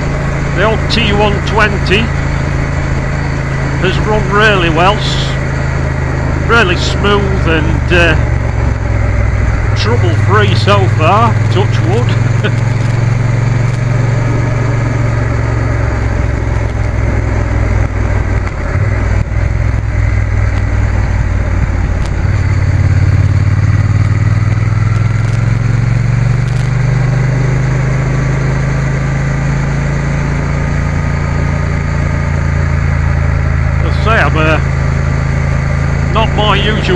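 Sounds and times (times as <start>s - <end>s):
motorcycle engine running: 0.0s - 36.9s
wind and road noise: 0.0s - 36.9s.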